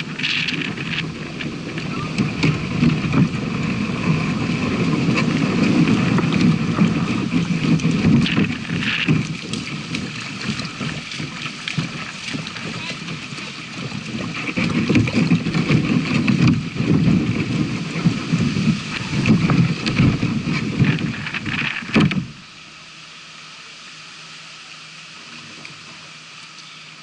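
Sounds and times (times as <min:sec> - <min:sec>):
kayak dragged across grass: 0:00.0 - 0:22.8.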